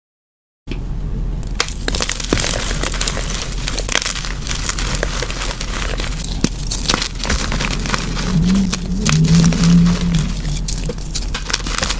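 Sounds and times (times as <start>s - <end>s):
low steady rumble: 0.7s - 11.9s
chalk being crushed: 1.5s - 11.9s.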